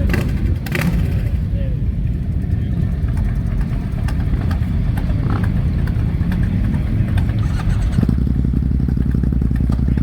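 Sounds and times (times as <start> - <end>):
motorcycle engines idling: 0.0 - 10.0.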